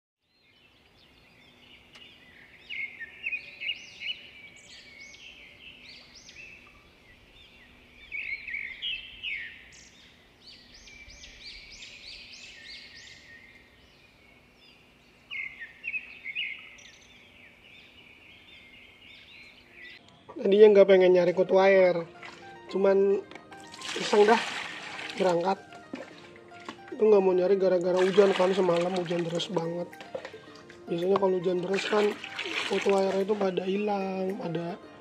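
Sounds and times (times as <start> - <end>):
small birds chirping: 0.2 - 35.0.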